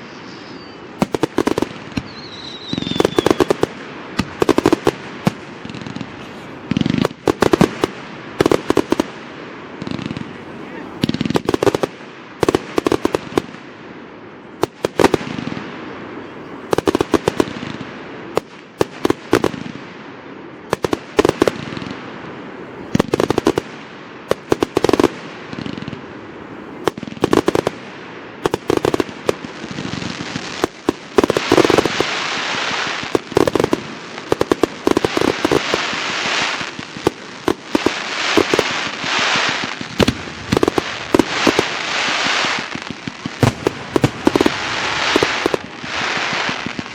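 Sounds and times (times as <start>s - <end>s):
continuous hiss: 0.0s - 46.9s
fireworks bangs: 0.0s - 46.9s.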